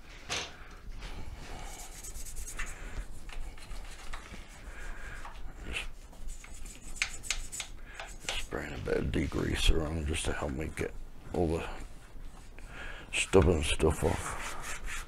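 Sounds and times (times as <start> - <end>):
hand scrubbing rubbing strokes: 1.0 - 15.0.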